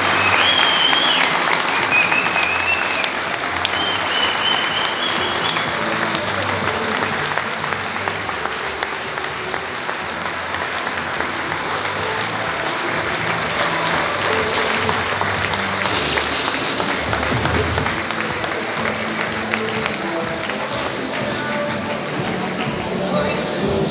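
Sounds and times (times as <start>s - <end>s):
large audience applauding: 0.0s - 23.9s.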